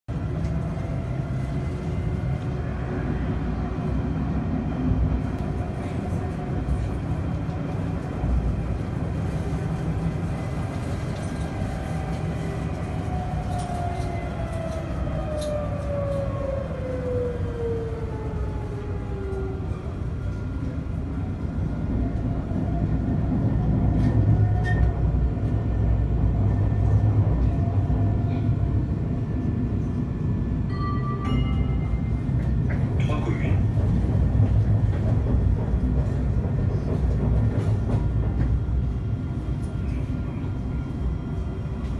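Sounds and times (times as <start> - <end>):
tram rumbling on track: 0.1 - 41.9
tram whine gliding down: 0.1 - 41.9.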